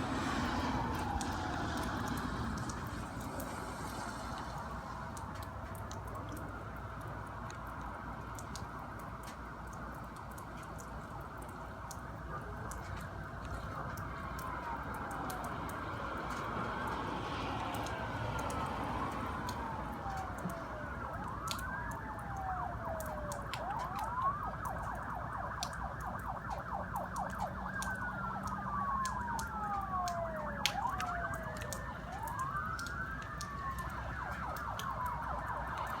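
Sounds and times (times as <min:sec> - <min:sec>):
emergency vehicle sirens wailing: 0:00.0 - 0:36.0.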